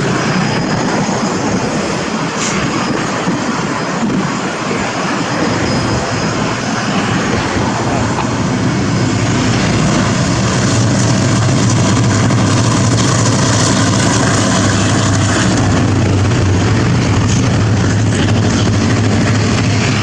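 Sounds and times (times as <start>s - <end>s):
diesel train engine drone: 0.0s - 20.0s
train rolling noise: 0.0s - 20.0s.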